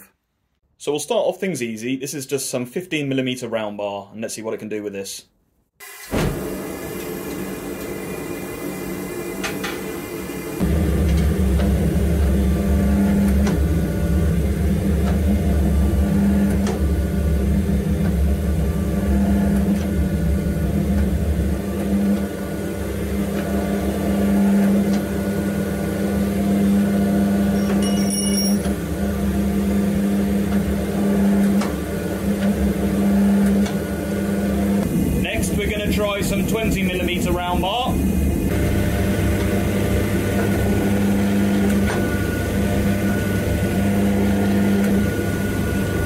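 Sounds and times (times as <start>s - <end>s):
hydraulic press hum: 5.8s - 46.0s.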